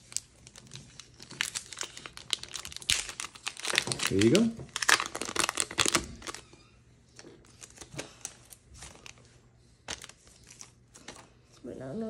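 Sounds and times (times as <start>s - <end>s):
foil wrapper crinkling: 0.0s - 11.3s.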